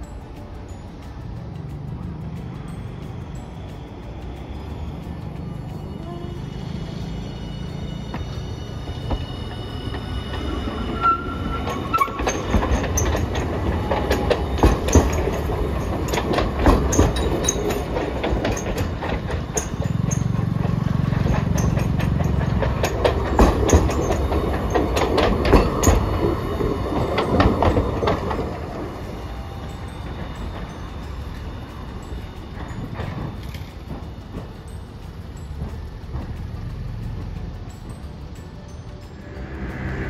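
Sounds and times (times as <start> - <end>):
wheel clicks over rail joints: 0.0 - 39.2
tram rumbling on street track: 0.0 - 40.0.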